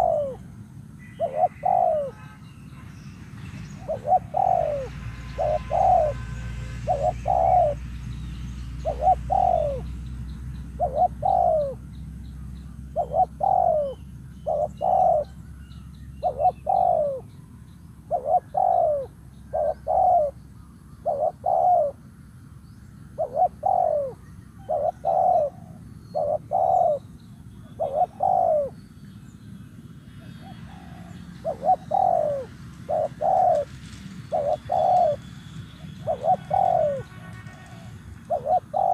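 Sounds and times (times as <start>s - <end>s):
dove cooing: 0.0s - 2.2s, 3.7s - 8.0s, 8.7s - 11.9s, 12.6s - 15.6s, 16.2s - 17.3s, 18.0s - 20.4s, 21.0s - 22.0s, 23.2s - 28.8s, 30.2s - 38.9s.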